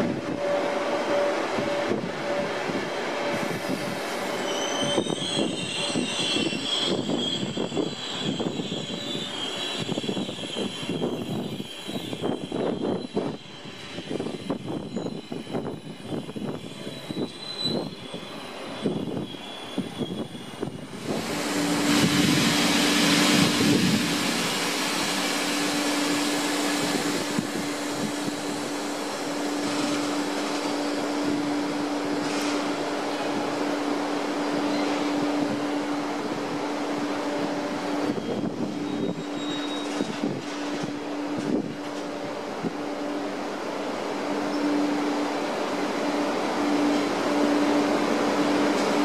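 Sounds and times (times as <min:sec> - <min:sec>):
electric locomotive drone: 0:00.0 - 0:39.2.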